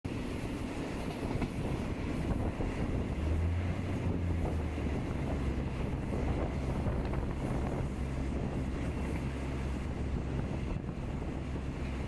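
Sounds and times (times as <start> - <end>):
moving train rumble: 0.1 - 12.0
wind on microphone: 0.2 - 12.0.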